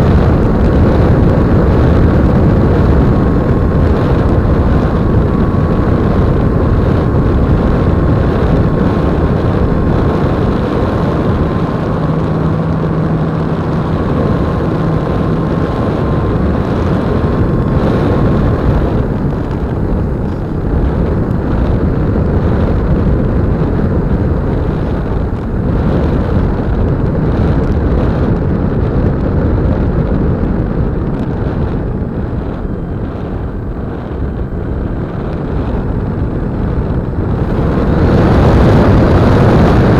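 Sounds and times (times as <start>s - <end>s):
propeller and wind rush: 0.0s - 39.9s
thin steady whine: 0.0s - 39.9s.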